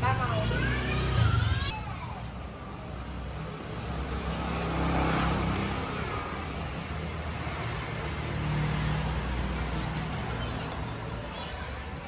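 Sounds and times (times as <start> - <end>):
road traffic engine hum: 0.0 - 12.0.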